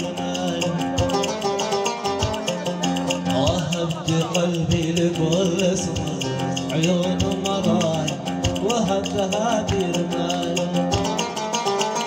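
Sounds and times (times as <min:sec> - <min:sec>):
plucked string melody: 0:00.0 - 0:12.0
steady drum beat: 0:00.0 - 0:12.0.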